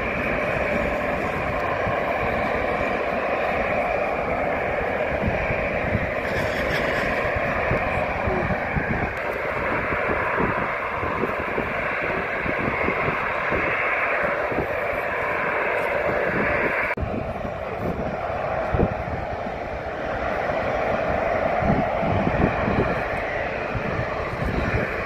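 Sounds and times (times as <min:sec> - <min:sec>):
jet engines roaring at low power: 0:00.0 - 0:25.0.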